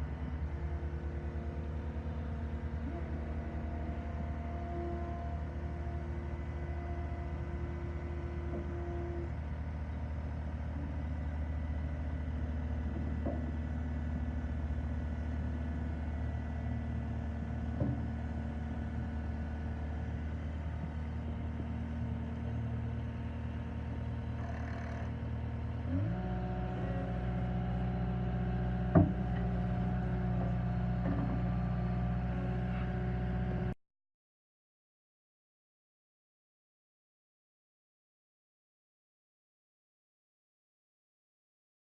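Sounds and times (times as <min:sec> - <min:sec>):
diesel engine running: 0:00.0 - 0:33.8.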